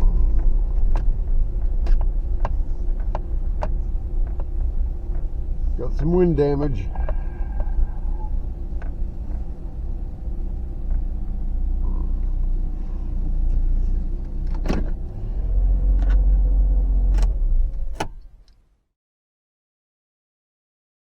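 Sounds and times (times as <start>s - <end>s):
car driving rumble: 0.0s - 18.8s.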